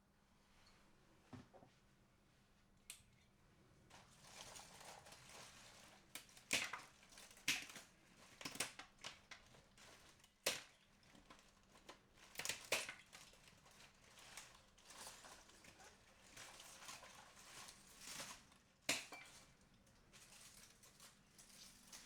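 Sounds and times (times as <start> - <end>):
rustling and crinkling: 3.8 - 22.0.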